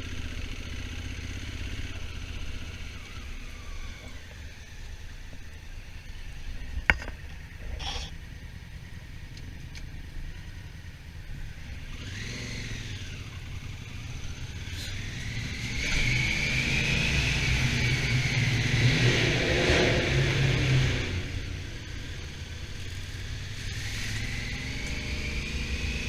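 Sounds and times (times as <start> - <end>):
motorcycle engine rumbling: 0.0 - 26.0
wind: 0.0 - 26.0.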